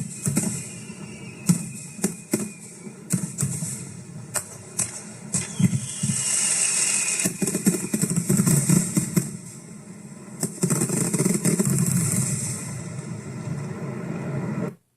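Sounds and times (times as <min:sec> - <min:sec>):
firework hiss: 0:00.0 - 0:14.7
fireworks crackling pops: 0:00.0 - 0:14.8.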